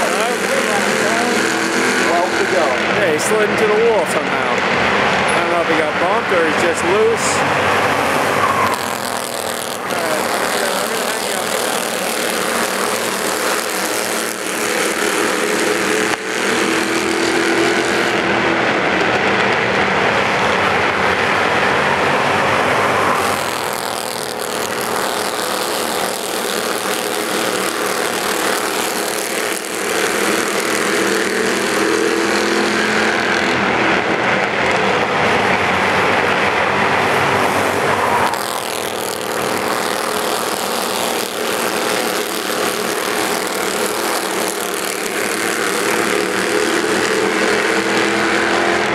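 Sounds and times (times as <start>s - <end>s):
race car engines droning: 0.0s - 48.9s.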